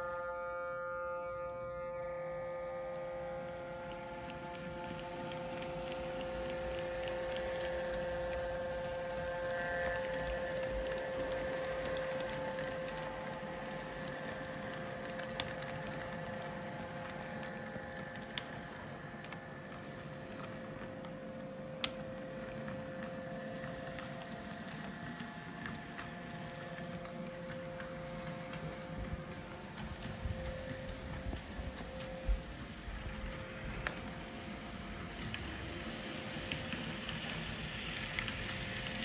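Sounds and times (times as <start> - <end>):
model train motor whine: 0.0 - 39.0.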